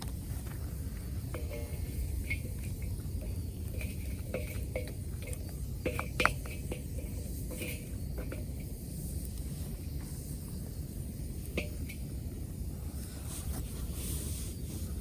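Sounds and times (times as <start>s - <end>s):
wood fire crackling: 0.0s - 13.2s
steady low rumble: 0.0s - 15.0s.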